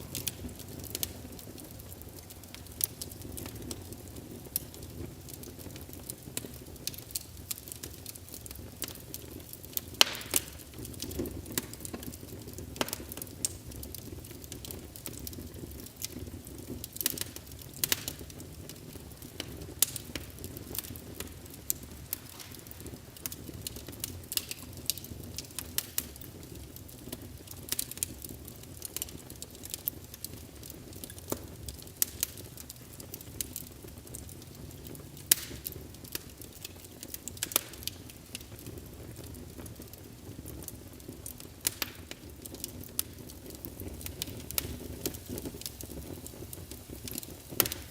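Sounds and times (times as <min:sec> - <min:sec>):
fire crackling and popping: 0:00.0 - 0:47.9
wood fire rumbling: 0:00.0 - 0:47.9.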